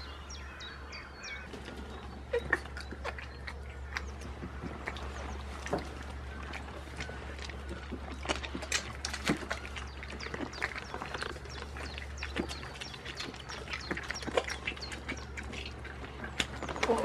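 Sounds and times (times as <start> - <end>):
low hum: 0.0 - 17.0
goats crunching pepper: 1.5 - 17.0.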